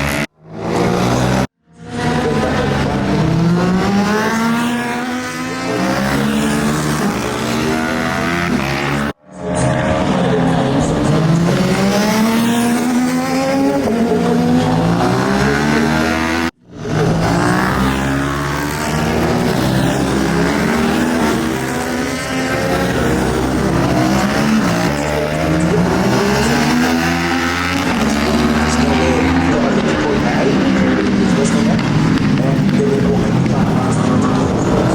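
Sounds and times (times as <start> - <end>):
motorbike engines revving: 0.0 - 34.9.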